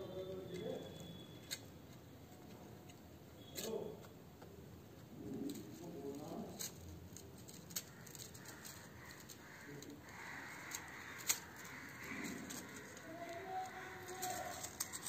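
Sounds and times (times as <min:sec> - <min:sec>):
wire rustling with small clicks: 0:00.5 - 0:15.0.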